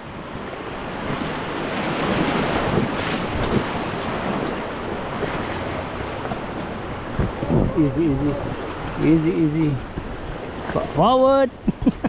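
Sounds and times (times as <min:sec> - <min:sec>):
river rapids roaring: 0:00.0 - 0:11.6
wind buffeting microphone: 0:00.0 - 0:12.0.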